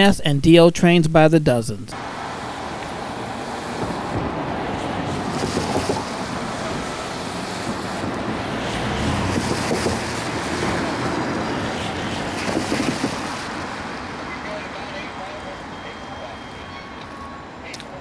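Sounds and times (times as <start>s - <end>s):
freight train rolling: 2.0s - 17.6s.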